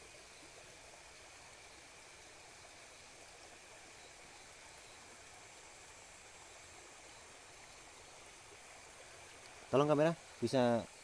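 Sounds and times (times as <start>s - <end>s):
faint steady hiss: 0.0s - 11.0s
thin steady high tone: 0.0s - 11.0s.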